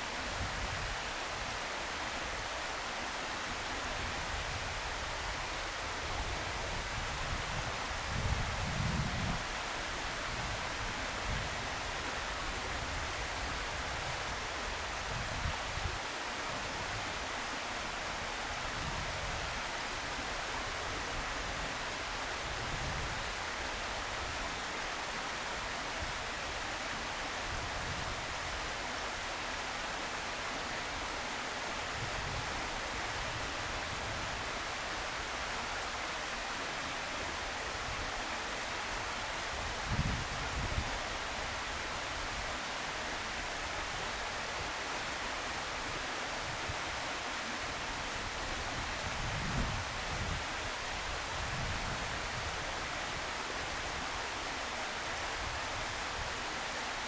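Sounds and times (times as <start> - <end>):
outdoor hiss: 0.0 - 57.0.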